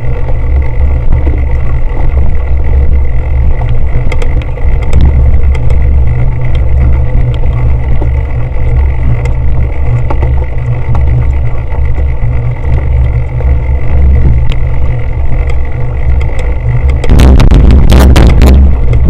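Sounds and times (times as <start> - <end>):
low rumble of wind and vibration: 0.0 - 19.0
bike clicks and rattles: 2.4 - 19.0.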